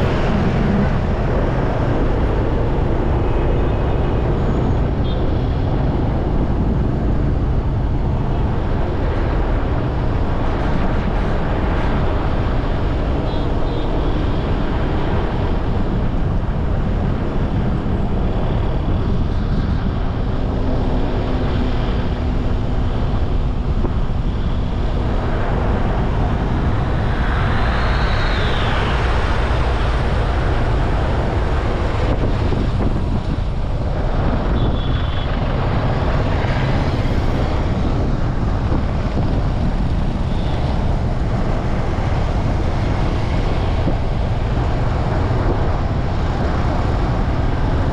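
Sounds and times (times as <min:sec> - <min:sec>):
motorbike road noise: 0:00.0 - 0:47.9
wind on microphone: 0:00.0 - 0:47.9.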